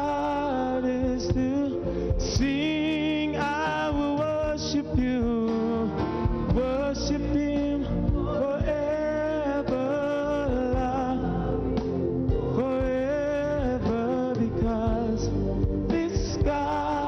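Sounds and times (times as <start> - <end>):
instrumental accompaniment: 0.0 - 17.0.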